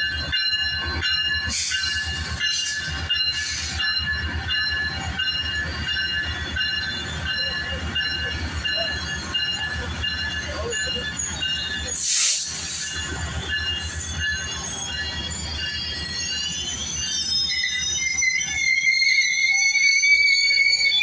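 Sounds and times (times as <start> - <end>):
low train rumble: 0.0 - 21.0
train wheels squealing: 0.0 - 21.0.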